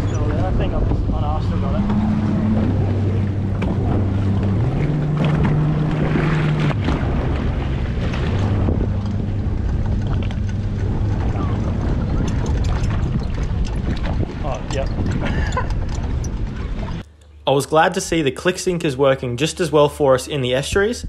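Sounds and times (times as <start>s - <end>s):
wind buffeting microphone: 0.0s - 17.0s
boat engine running: 0.0s - 21.0s.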